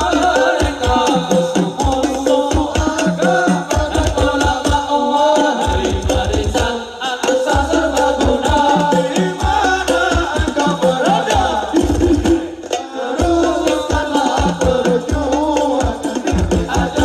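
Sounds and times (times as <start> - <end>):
devotional singing over hand drums: 0.0 - 17.0.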